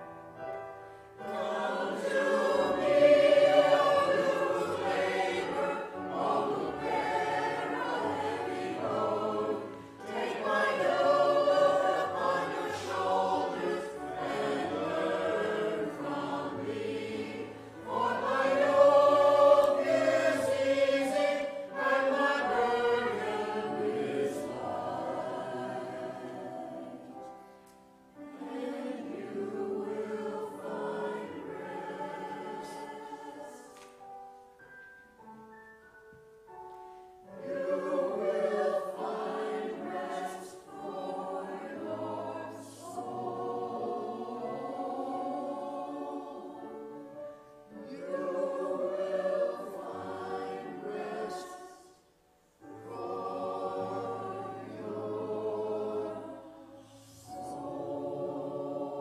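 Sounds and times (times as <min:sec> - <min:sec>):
church choir singing: 0:00.0 - 0:34.6, 0:36.2 - 0:59.0.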